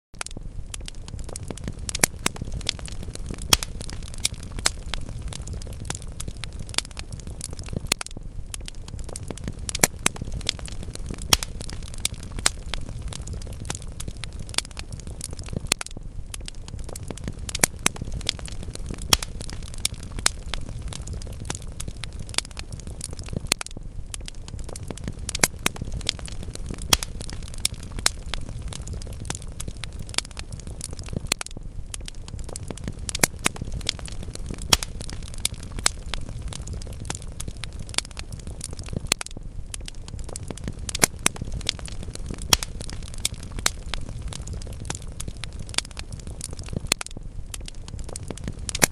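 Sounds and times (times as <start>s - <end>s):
logs crackling and popping: 0.2s - 48.9s
low sound of flames: 0.2s - 48.9s.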